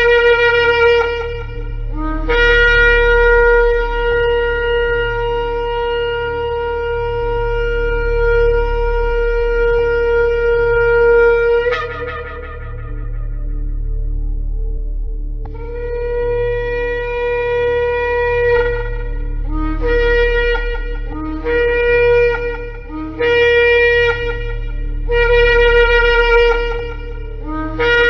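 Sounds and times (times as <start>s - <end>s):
shofar blowing: 0.0s - 14.7s, 15.5s - 28.0s.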